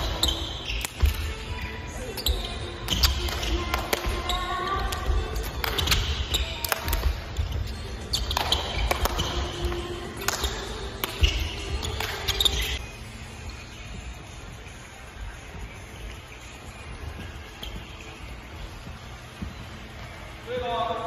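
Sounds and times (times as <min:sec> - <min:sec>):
background music: 0:00.0 - 0:21.0
sneakers squeaking: 0:00.0 - 0:21.0.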